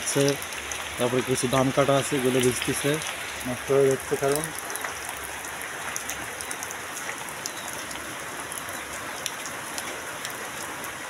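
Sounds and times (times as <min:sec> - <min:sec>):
heavy rain on mud: 0:00.0 - 0:11.0.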